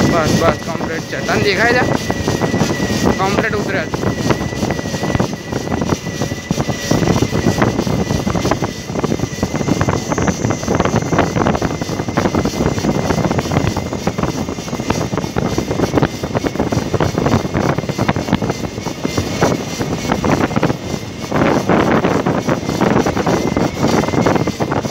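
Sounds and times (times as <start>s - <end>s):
faint high whine: 0.0s - 24.8s
wind buffeting microphone: 0.0s - 24.9s.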